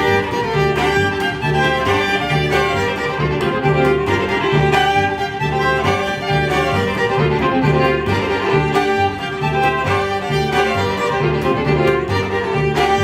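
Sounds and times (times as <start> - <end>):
fiddles playing fast tune: 0.0 - 13.0
upright bass: 0.0 - 13.0.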